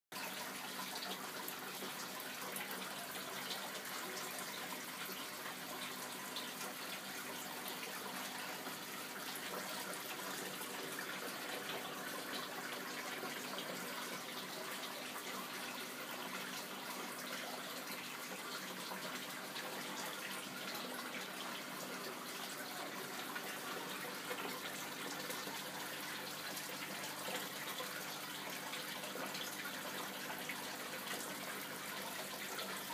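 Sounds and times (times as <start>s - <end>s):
water running and trickling: 0.2s - 32.9s.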